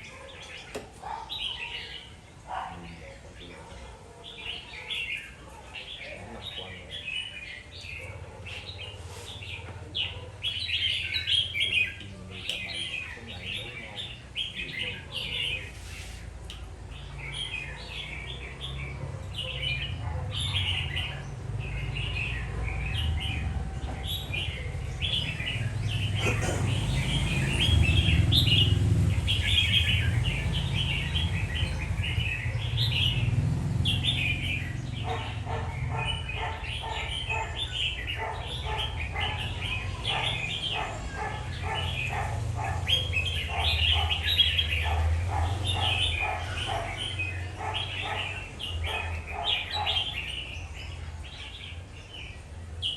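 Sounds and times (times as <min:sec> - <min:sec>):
bird singing chirpy phrases: 0:00.0 - 0:52.9.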